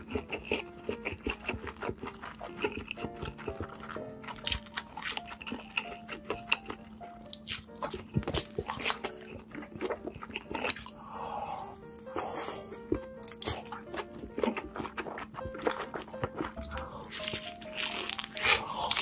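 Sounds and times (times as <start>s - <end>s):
crunchy bites and chewing: 0.0s - 19.0s
light melodic background music: 0.0s - 19.0s
wet squishy mouth sounds: 0.0s - 19.0s.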